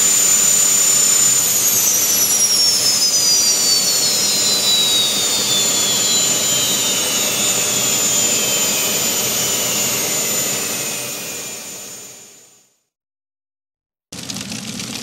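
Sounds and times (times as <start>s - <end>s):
turbine engine spooling down: 0.0s - 12.4s.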